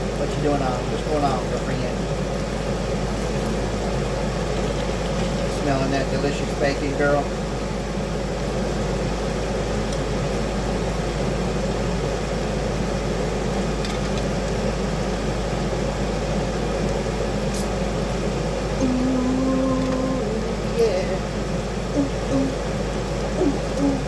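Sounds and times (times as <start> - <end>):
bacon sizzling in a frying pan: 0.0 - 23.8.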